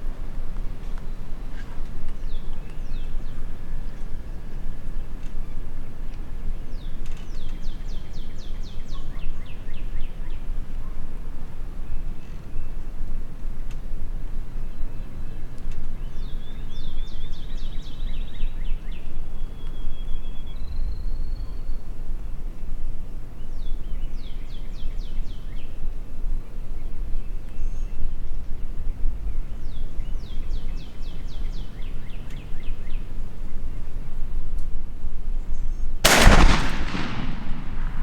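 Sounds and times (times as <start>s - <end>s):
songbird singing: 0.0s - 38.0s.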